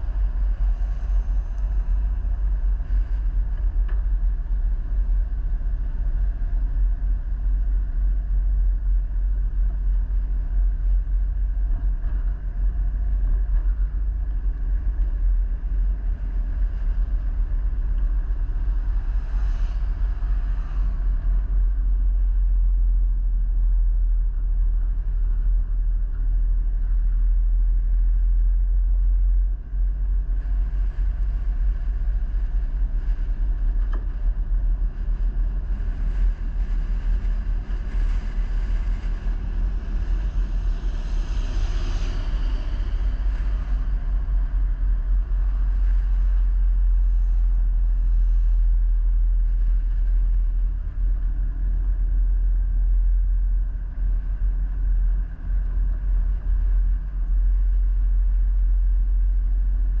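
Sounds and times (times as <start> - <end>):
vehicle driving rumble: 0.0 - 60.0.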